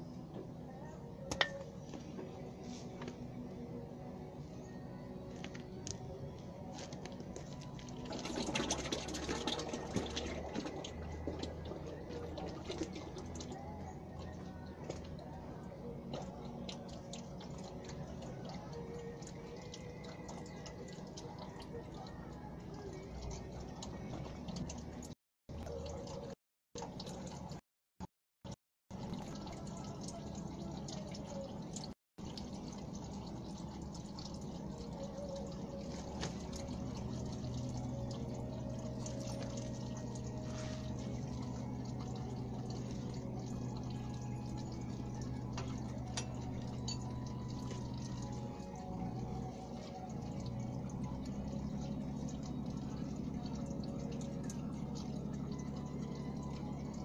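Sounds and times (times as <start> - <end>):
low steady hum: 0.0 - 27.6, 28.9 - 57.0
oil draining into container: 7.3 - 27.6, 28.9 - 57.0.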